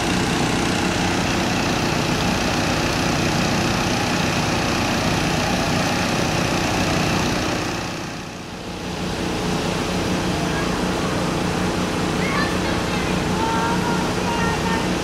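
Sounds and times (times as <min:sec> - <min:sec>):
water pump engine running: 0:00.0 - 0:15.0.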